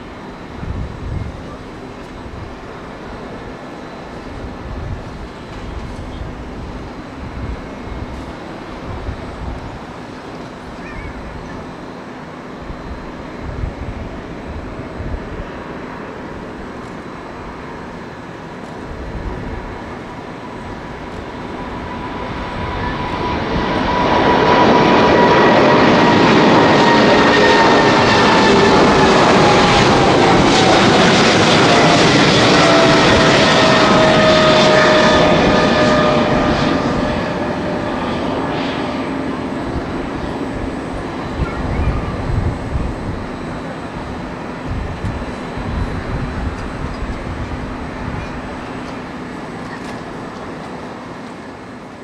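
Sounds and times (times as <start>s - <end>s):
jet airliner taking off: 0.0s - 52.0s
jet engine whine: 0.0s - 52.0s.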